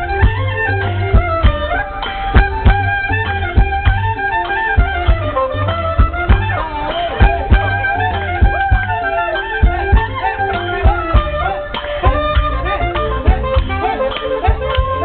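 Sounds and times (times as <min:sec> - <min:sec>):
reedy wind instrument melody: 0:00.0 - 0:15.0
steady drum beat: 0:00.0 - 0:15.0.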